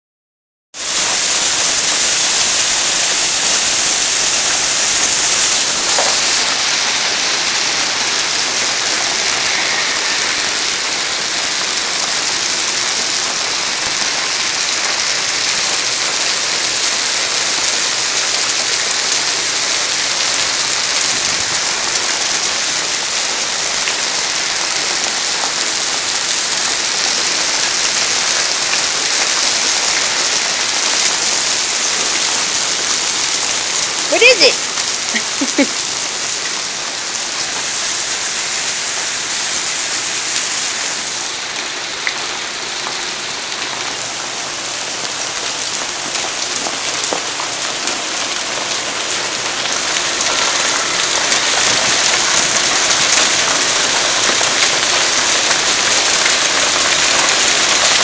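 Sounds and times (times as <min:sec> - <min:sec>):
hail striking the ground: 0:00.8 - 0:58.0.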